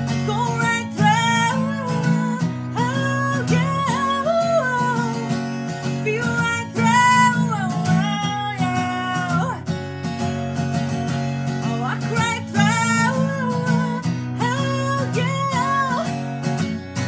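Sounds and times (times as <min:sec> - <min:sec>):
woman singing: 0:00.0 - 0:09.8, 0:11.5 - 0:16.6
strummed acoustic guitar: 0:00.0 - 0:17.0.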